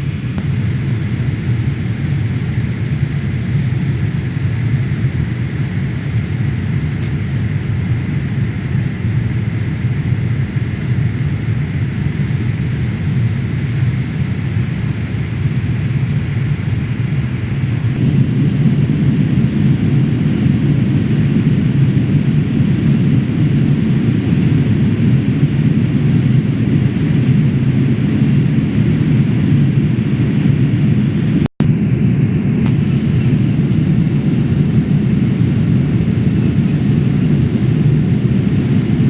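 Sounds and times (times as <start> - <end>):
airliner cabin engine rush: 0.0 - 39.0.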